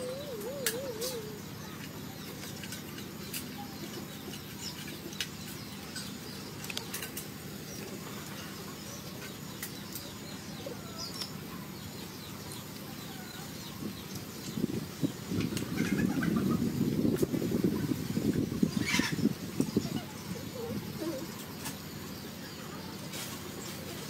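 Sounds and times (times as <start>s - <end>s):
birds chirping: 0.0s - 24.0s
steady low background noise: 0.0s - 24.0s.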